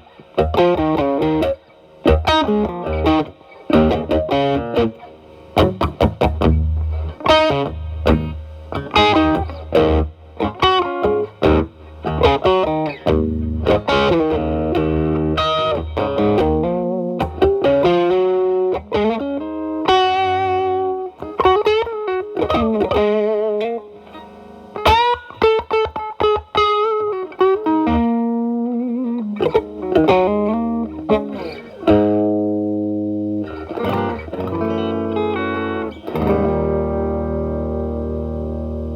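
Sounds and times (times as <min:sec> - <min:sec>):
overdriven electric guitar: 0:00.0 - 0:38.9.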